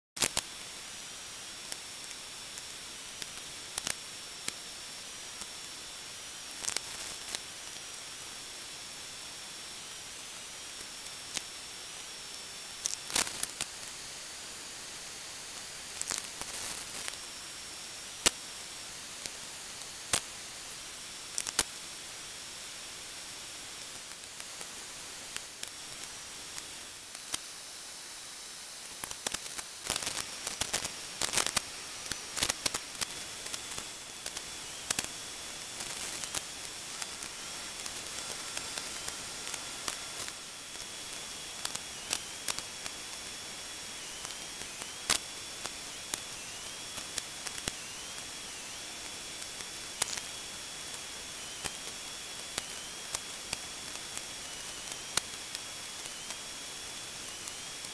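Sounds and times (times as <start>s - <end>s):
sharp clicks and crackles: 0.2s - 0.7s, 1.4s - 5.8s, 6.5s - 8.0s, 10.6s - 14.0s, 15.5s - 20.4s, 21.3s - 21.8s, 23.6s - 27.9s, 28.6s - 57.9s
steady hiss: 0.2s - 57.9s.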